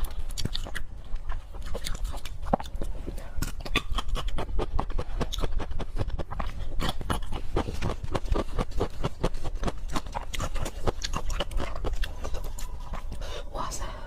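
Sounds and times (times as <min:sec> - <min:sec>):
chewing and wet mouth smacking: 0:00.0 - 0:13.3.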